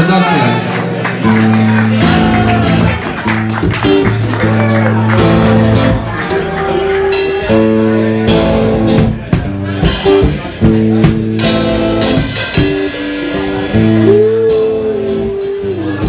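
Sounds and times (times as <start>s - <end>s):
strummed acoustic guitar chords: 0.8s - 16.0s
drum kit: 1.2s - 16.0s.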